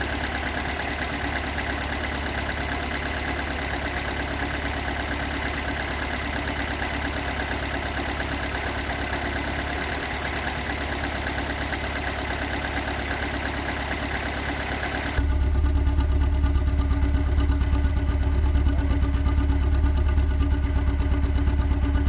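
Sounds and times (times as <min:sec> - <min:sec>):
car engine idling roughly: 0:00.0 - 0:22.0
engine knocking: 0:00.0 - 0:22.0.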